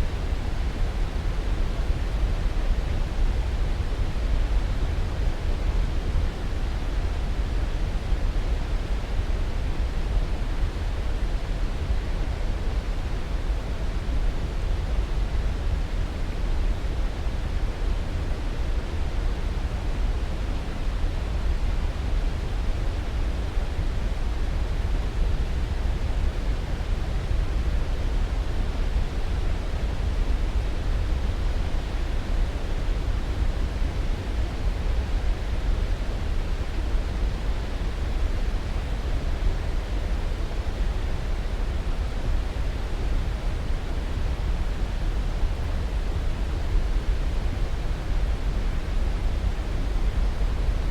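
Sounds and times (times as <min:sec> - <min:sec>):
deep white noise hiss: 0:00.0 - 0:50.9.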